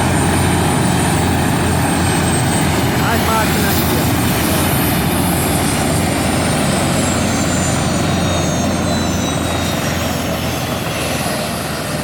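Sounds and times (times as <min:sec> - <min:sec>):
helicopter turbine engines droning: 0:00.0 - 0:12.0
high turbine whine: 0:00.0 - 0:12.0.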